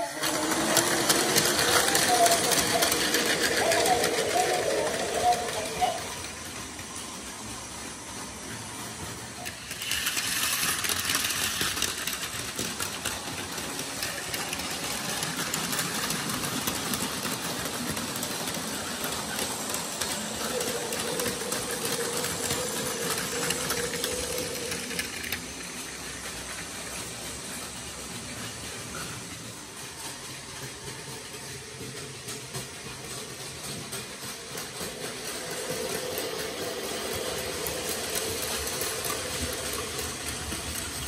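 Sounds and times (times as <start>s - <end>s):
toy train motors whirring: 0.0s - 41.0s
toy train wheels rattling: 0.0s - 41.0s.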